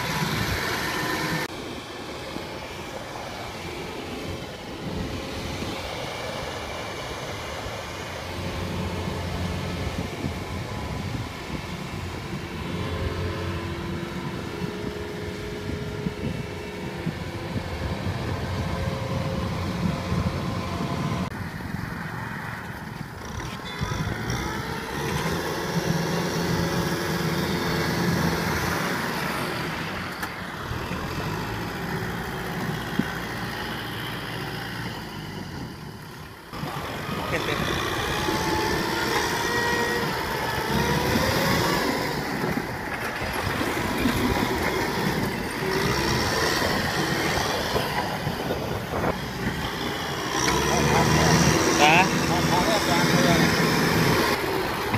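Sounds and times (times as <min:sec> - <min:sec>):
diesel engines running under load: 0:00.0 - 0:54.9.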